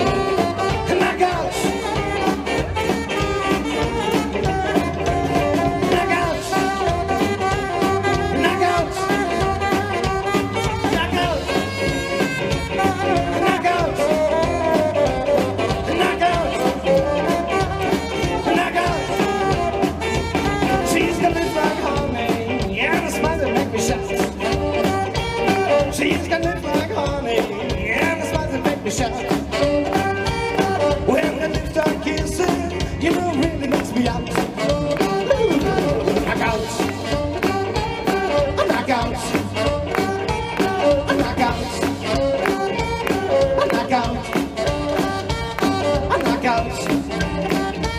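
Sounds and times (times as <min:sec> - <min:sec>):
live rockabilly band playing: 0:00.0 - 0:47.9.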